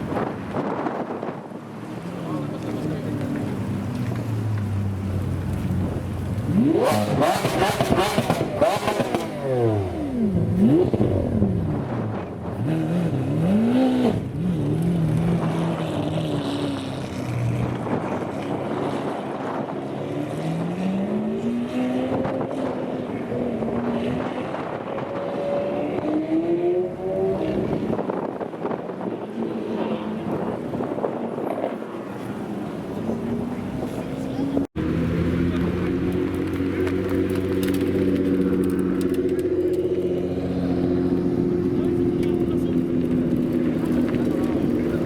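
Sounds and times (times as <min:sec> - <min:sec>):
sports car engine revving: 0:02.3 - 0:28.4, 0:29.2 - 0:45.0.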